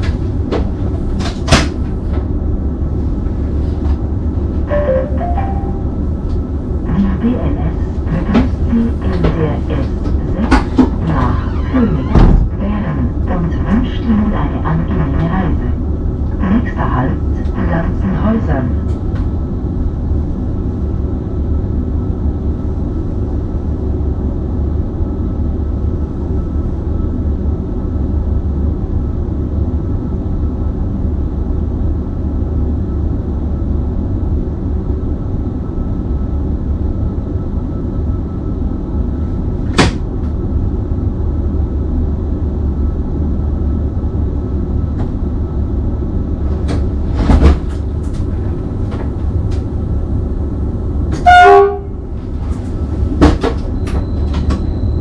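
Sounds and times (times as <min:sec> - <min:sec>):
electric train humming: 0:00.0 - 0:55.0.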